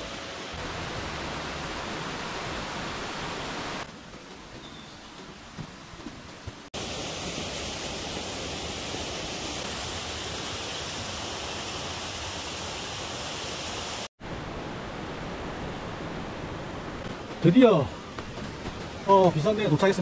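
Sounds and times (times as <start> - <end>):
driving rain: 0.0 - 4.6, 5.4 - 20.0.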